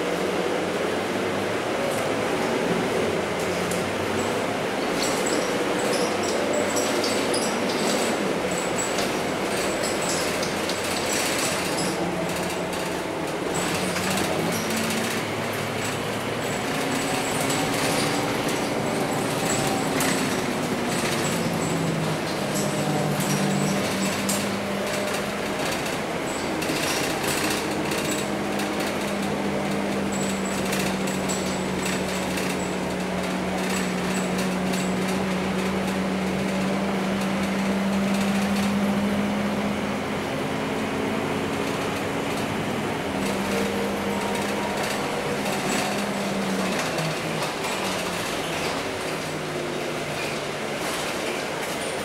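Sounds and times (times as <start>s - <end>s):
bus diesel engine drone: 0.0s - 52.0s.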